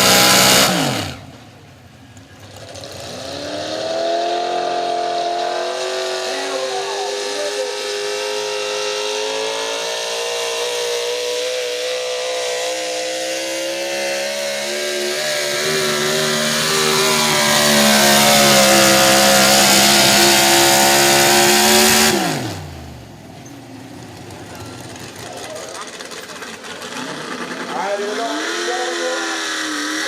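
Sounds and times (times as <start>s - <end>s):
truck engine running flat out: 0.0s - 30.0s.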